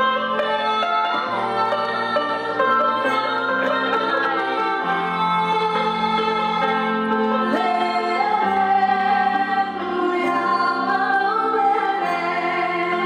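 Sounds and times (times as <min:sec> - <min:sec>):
guitar: 0:00.0 - 0:13.0
plucked lute: 0:00.0 - 0:13.0
woman singing with vibrato: 0:00.0 - 0:13.0.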